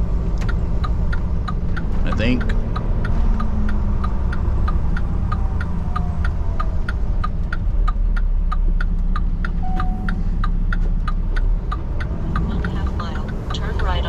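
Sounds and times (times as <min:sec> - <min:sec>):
truck engine and road rumble: 0:00.0 - 0:14.0
turn signal indicator clicking: 0:00.2 - 0:14.0.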